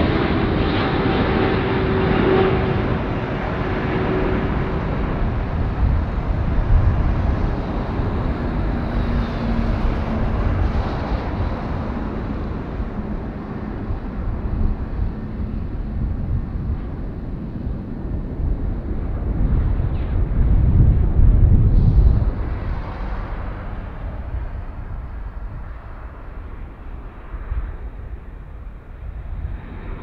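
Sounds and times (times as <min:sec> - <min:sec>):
jet airliner flying past: 0:00.0 - 0:30.0
wind buffeting microphone: 0:00.0 - 0:30.0.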